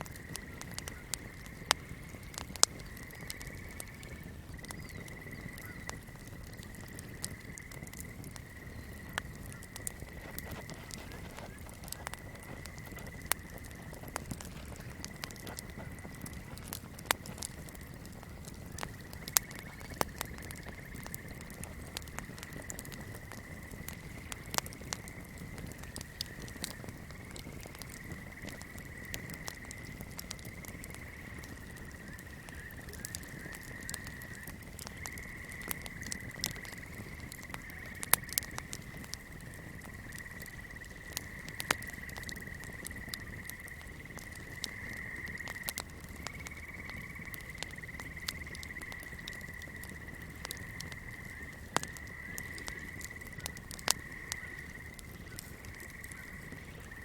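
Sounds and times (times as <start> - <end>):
burning candle crackling: 0.0 - 57.0.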